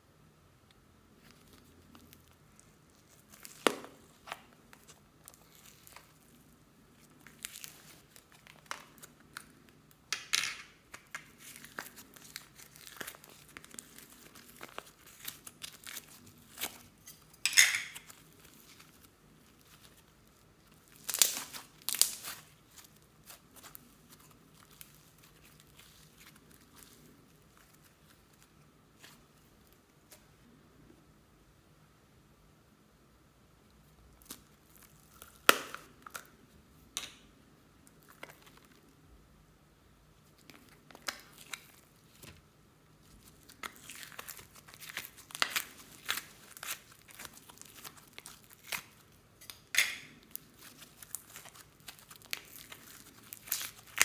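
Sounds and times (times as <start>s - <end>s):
slime crackling and popping: 1.2s - 29.1s, 34.1s - 36.4s, 40.2s - 42.4s, 43.0s - 54.0s.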